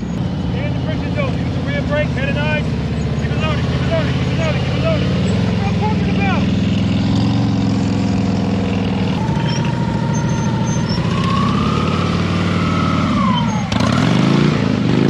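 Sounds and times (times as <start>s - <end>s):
high whine: 0.0s - 14.0s
motorcycle engine running: 0.0s - 15.0s.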